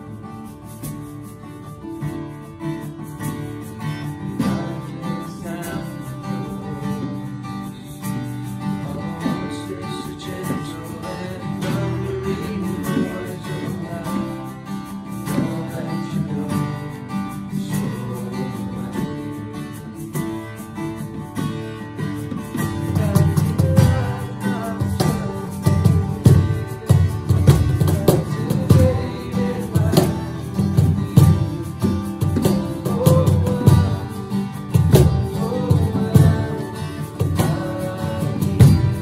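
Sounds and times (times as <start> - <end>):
hand drum beats: 0.0 - 39.0
strummed acoustic guitars: 0.0 - 39.0
people singing: 4.2 - 7.7, 8.6 - 20.2, 22.5 - 39.0.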